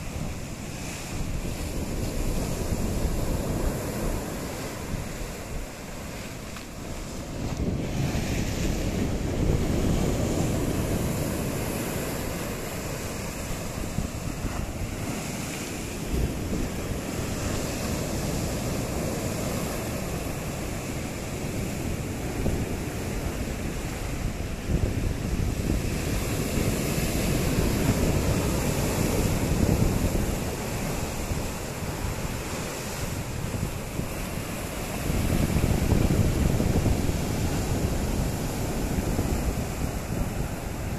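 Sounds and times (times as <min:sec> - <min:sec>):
sea surf breaking on rocks: 0:00.0 - 0:40.9.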